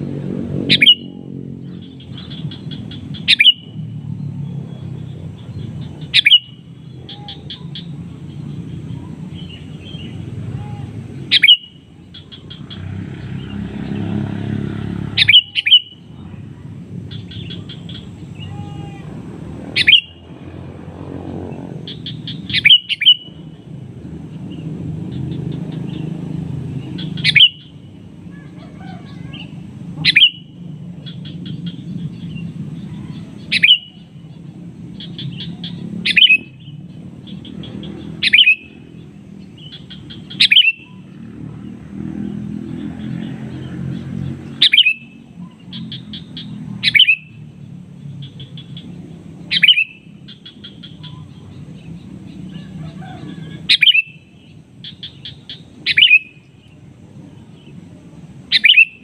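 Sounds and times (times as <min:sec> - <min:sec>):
bulbul calling: 0:00.5 - 0:14.3, 0:15.0 - 0:20.6, 0:21.4 - 0:57.8, 0:58.5 - 0:59.0.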